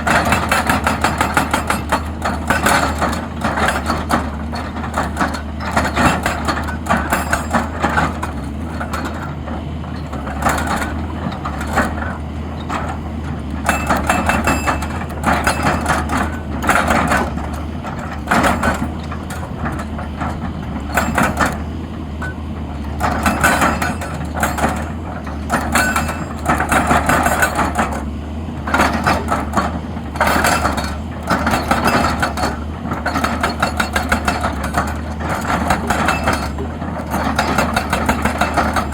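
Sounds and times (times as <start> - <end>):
diesel engine under load: 0.0 - 38.9
excavator gear clattering: 0.0 - 38.9.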